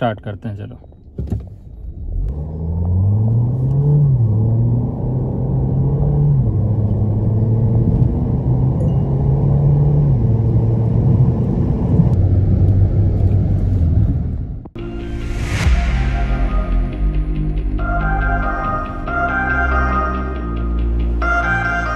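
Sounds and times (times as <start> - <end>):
car engine accelerating: 1.8 - 21.9.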